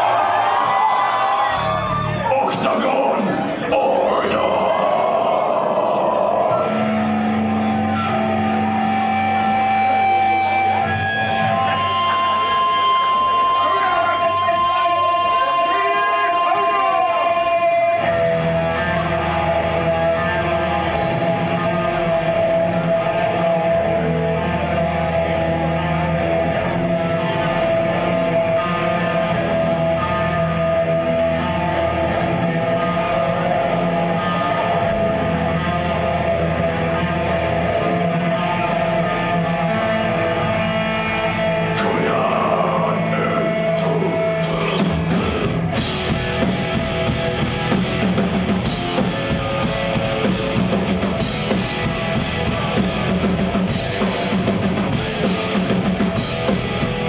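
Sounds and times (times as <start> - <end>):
bass notes: 0.0 - 15.6, 17.3 - 57.0.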